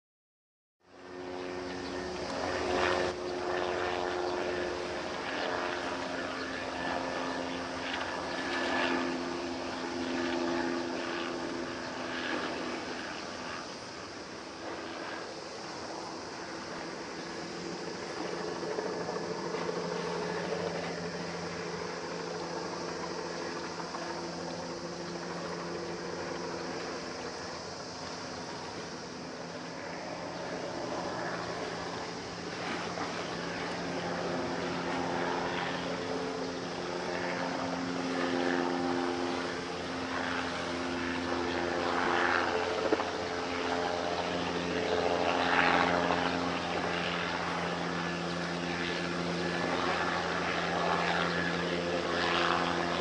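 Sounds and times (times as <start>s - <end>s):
wind and water hiss: 0.9s - 53.0s
ship engines droning: 1.0s - 53.0s.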